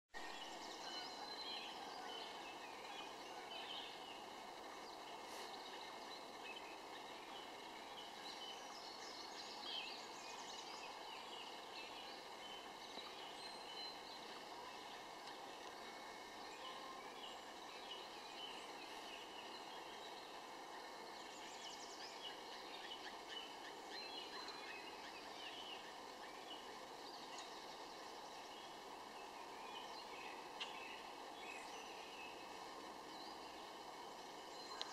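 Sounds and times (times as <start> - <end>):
steady background hiss: 0.2 - 34.9
wild birds chirping: 0.2 - 34.9.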